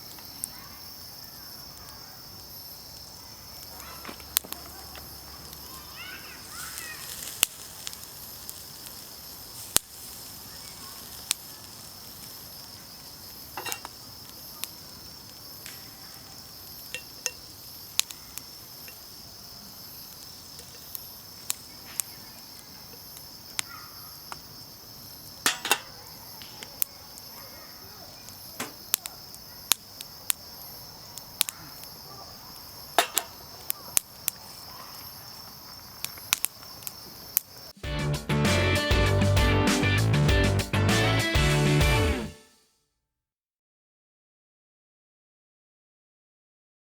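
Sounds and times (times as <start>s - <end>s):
crickets trilling: 0.0s - 37.8s
campfire popping and crackling: 0.0s - 42.3s.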